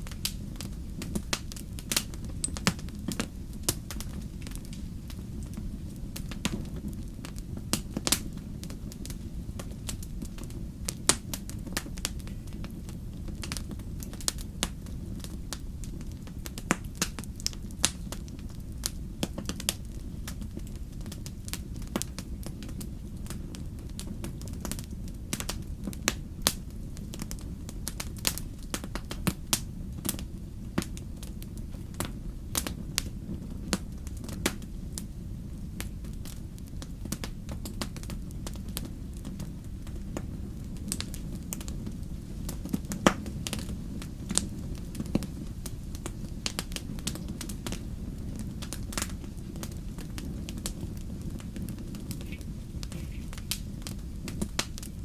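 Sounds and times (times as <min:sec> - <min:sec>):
bonfire crackling and popping: 0:00.0 - 0:55.0.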